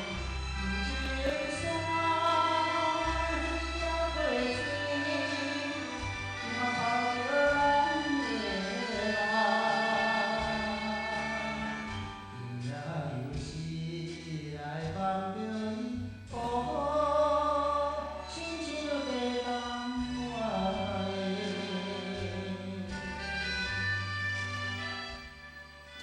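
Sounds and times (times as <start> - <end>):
sung melody with instruments: 0.0 - 26.0.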